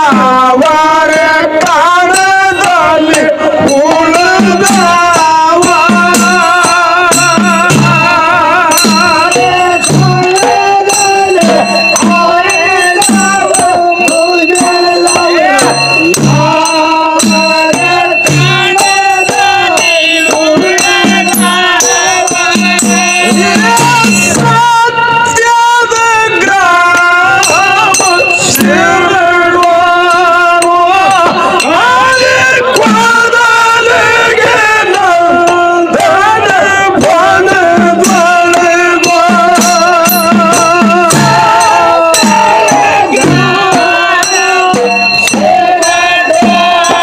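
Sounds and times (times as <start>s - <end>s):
drums beating: 0.0s - 47.0s
jingling percussion: 0.0s - 47.0s
men singing through a loudspeaker: 0.0s - 47.0s.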